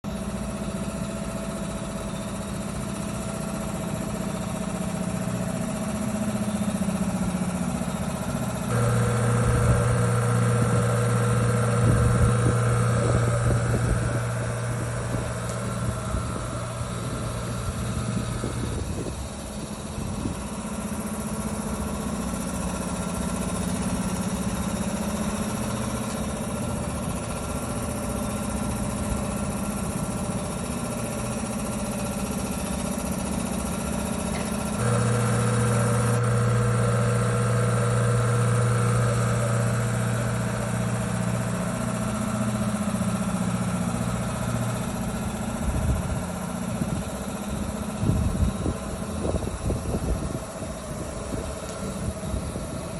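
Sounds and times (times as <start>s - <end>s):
deeper hum with whine: 0.1s - 52.9s.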